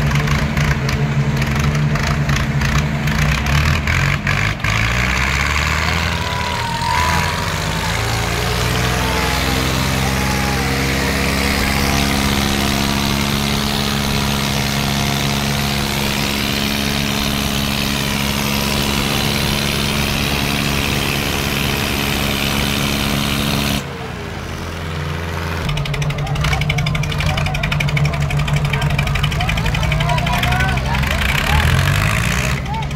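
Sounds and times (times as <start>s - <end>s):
tractor diesel engine labouring: 0.0s - 32.9s.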